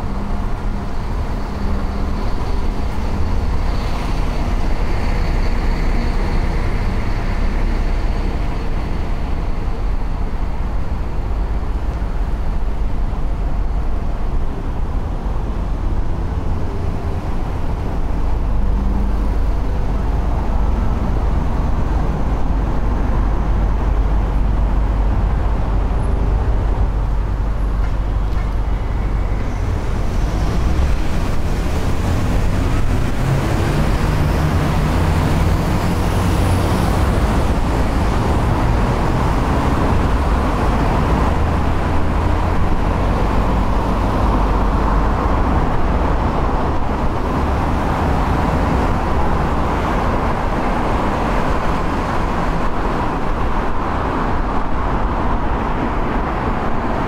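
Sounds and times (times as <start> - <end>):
motor vehicle traffic: 0.0 - 57.0
wind and road noise from bicycle: 0.0 - 57.0.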